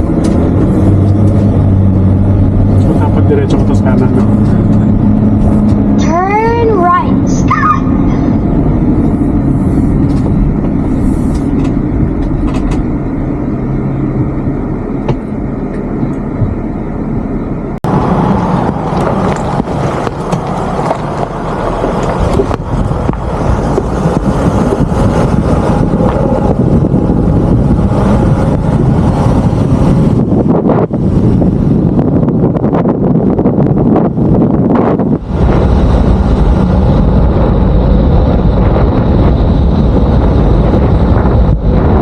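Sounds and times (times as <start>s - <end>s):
van road and engine rumble: 0.0s - 42.0s.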